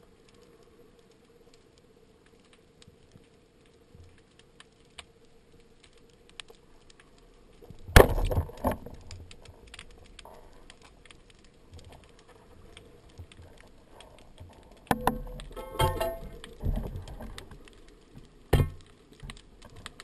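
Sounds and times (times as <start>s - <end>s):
faint clicking: 0.0s - 20.0s.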